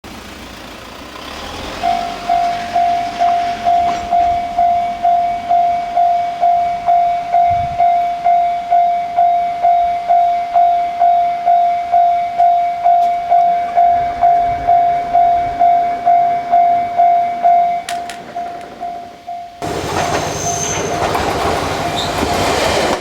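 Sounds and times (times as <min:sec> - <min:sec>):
level crossing warning bell ringing: 0:01.2 - 0:23.0.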